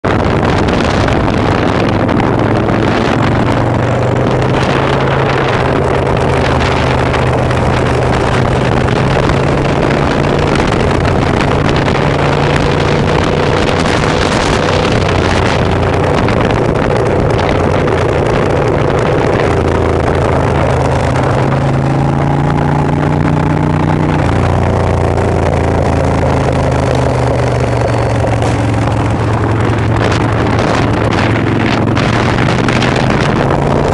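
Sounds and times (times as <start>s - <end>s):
motorcycle engine running: 0.0s - 33.9s
wind rushing over microphone: 0.0s - 33.9s.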